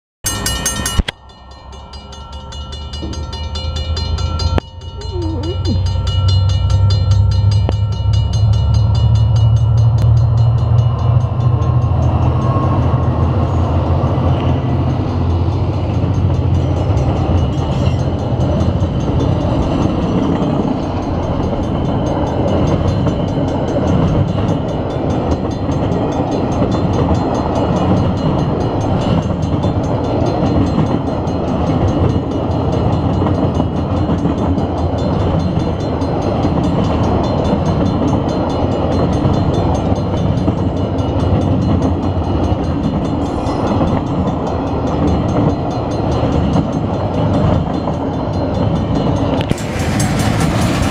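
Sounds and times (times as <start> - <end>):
locomotive engine drone: 0.3 - 50.9
train wheels rumbling on rail: 0.3 - 50.9.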